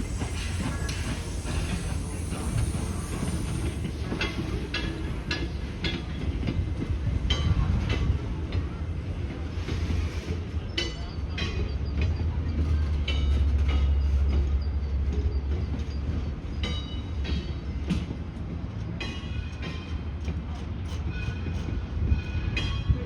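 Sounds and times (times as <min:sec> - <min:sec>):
train rumbling along track: 0:00.0 - 0:23.0
wheels clacking on rails: 0:00.0 - 0:23.0.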